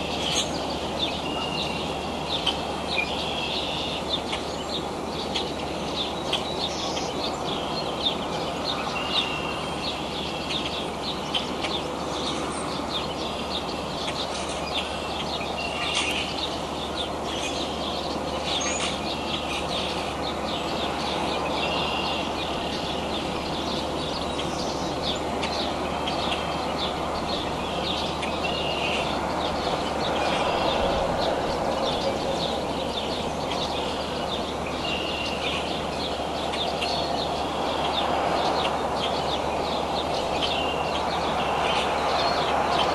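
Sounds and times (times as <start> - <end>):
small birds chirping: 0.0 - 42.9
steady background rushing noise: 0.0 - 42.9.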